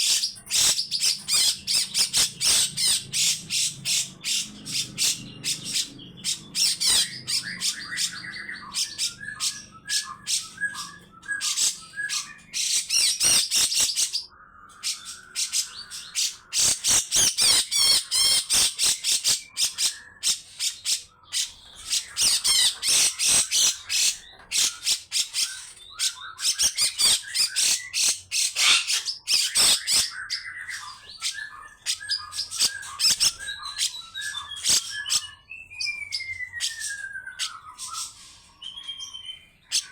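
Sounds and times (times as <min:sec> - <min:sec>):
descending bird whistle: 0:00.0 - 0:39.9.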